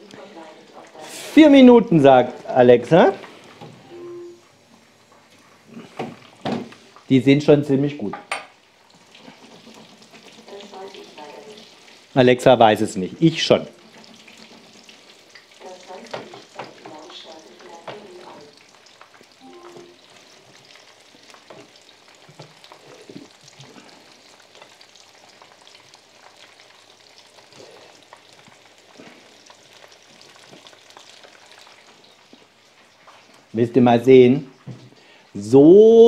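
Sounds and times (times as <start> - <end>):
food sizzling in oil: 0.0 - 36.0.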